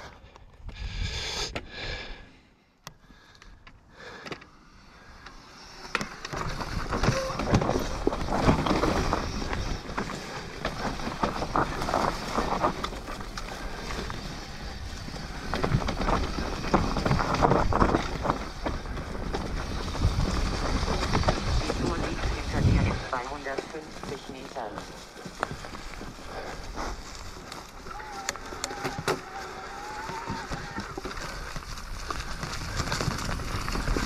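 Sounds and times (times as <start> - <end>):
bike tyres crunching over stones: 3.1 - 34.0
bike rattling over bumps: 4.1 - 34.0.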